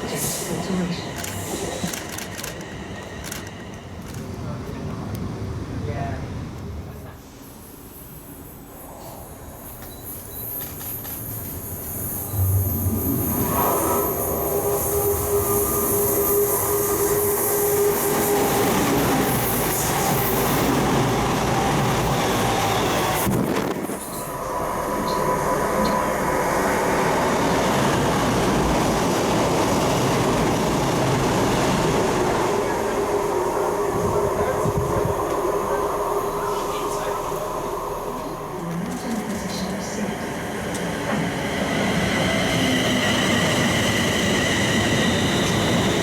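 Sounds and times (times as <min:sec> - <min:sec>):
train wheels rumbling on rails: 0:00.0 - 0:07.2, 0:09.0 - 0:46.0.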